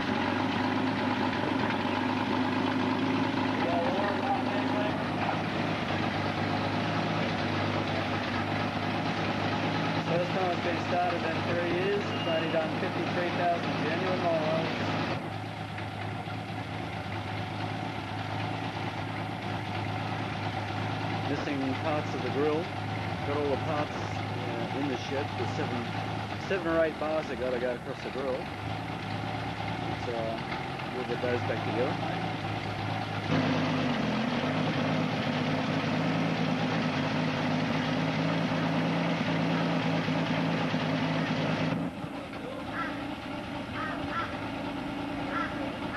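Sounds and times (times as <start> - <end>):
loud car engine idling: 0.0 - 45.9.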